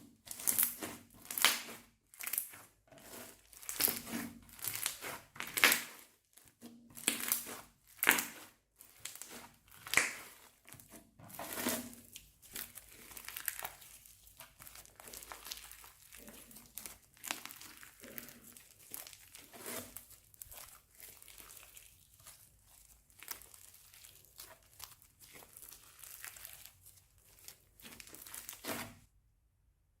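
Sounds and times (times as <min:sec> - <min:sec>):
slime squishing: 0:00.0 - 0:29.1.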